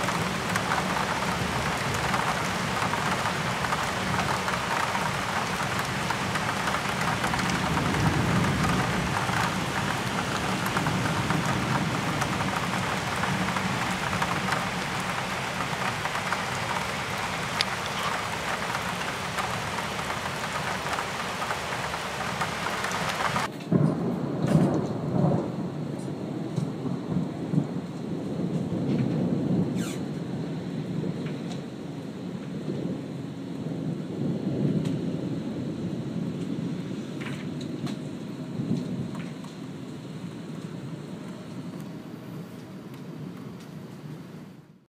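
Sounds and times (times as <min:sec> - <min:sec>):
rolling thunder: 0:00.0 - 0:42.0
heavy rain falling: 0:00.0 - 0:44.5.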